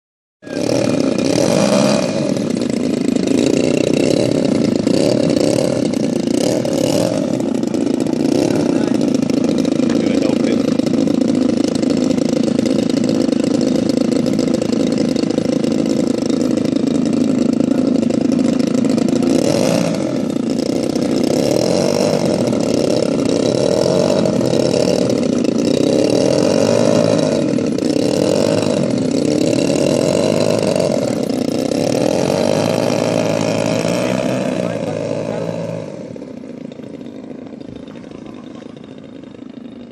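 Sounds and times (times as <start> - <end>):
model plane two-stroke engines: 0.4 - 39.9.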